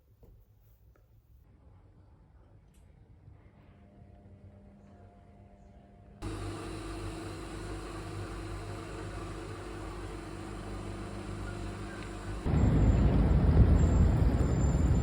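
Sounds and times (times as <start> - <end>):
mechanical hum and rumble: 1.5 - 15.0.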